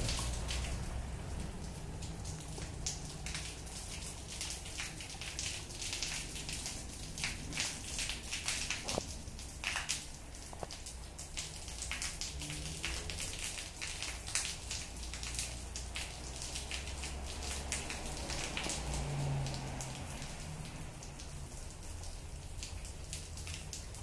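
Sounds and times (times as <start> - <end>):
rain pattering on concrete: 0.0 - 24.0.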